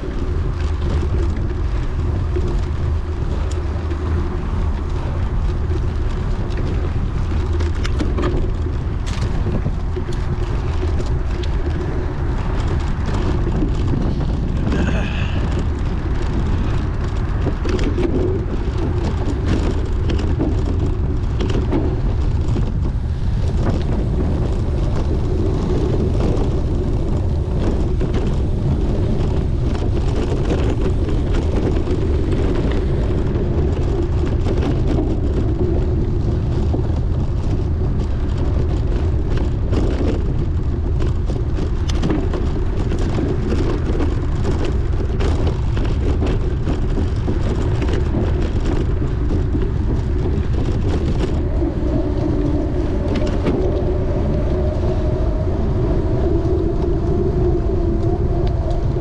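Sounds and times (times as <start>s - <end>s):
bicycle clicks and rattles: 0.0s - 59.0s
wind rushing over microphone: 0.0s - 59.0s.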